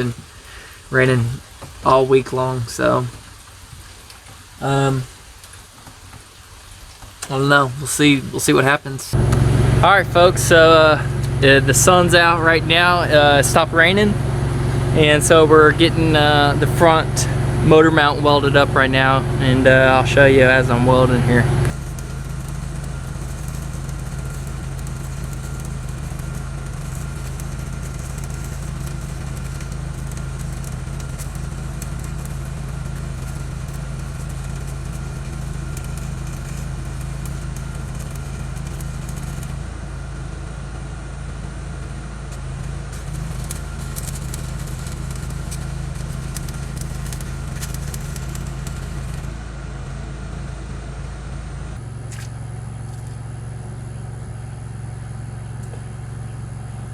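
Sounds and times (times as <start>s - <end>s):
engine drone: 0.0s - 5.5s, 7.0s - 56.9s
welding arc crackling: 0.0s - 39.8s, 42.3s - 49.4s.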